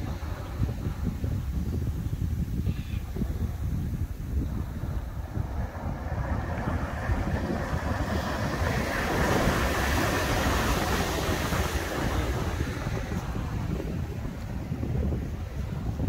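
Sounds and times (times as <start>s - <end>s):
surf hissing: 0.0s - 16.0s
wind buffeting microphone: 0.0s - 16.0s.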